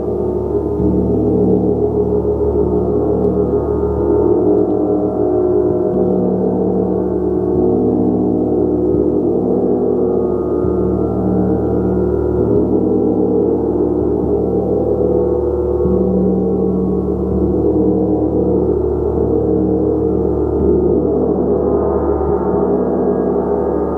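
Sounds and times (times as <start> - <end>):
gong played continuously: 0.0 - 23.9.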